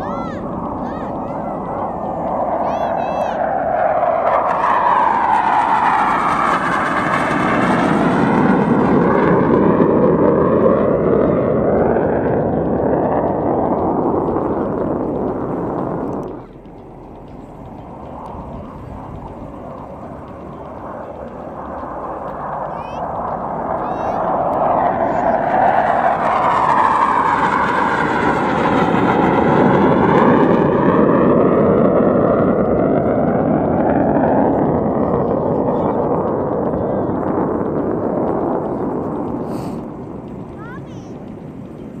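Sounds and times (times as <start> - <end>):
military jet engine roar: 0.0 - 42.0.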